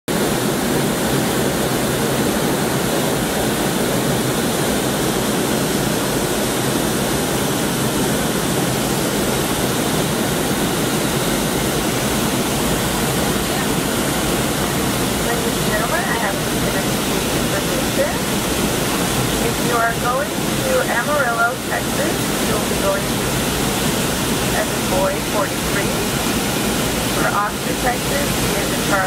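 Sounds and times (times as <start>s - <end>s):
airliner cabin noise: 0.1s - 29.0s.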